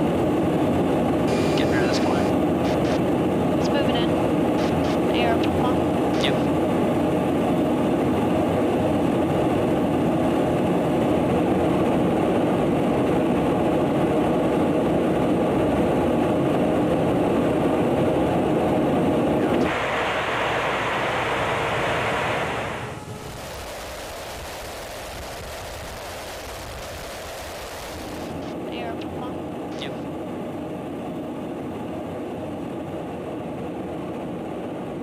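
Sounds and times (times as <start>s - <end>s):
aircraft in flight rushing: 0.0s - 35.0s.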